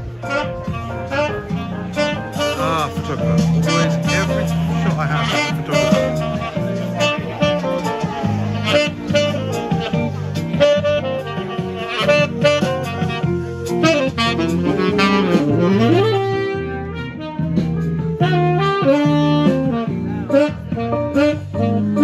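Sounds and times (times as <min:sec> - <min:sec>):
saxophone jazz melody: 0:00.0 - 0:22.0.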